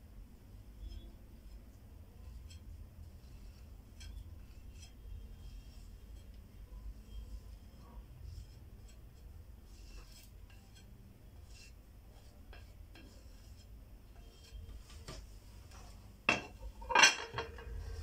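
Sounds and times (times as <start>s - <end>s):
low steady hum: 0.0s - 18.0s
spatula scraping a plate: 0.7s - 15.9s, 16.5s - 18.0s.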